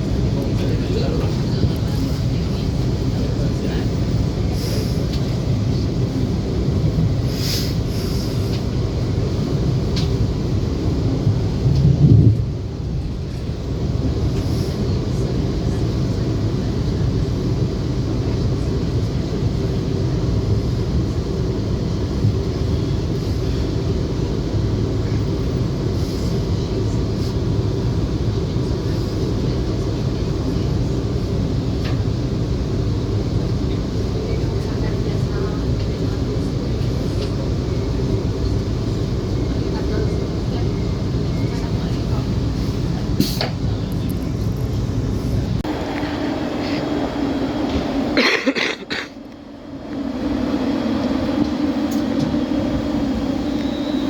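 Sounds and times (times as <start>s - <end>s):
train running rumble on board: 0.0s - 54.0s.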